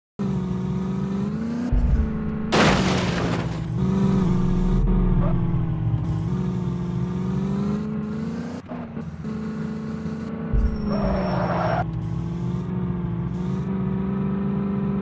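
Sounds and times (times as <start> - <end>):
tractor diesel engines droning: 0.2 - 15.0.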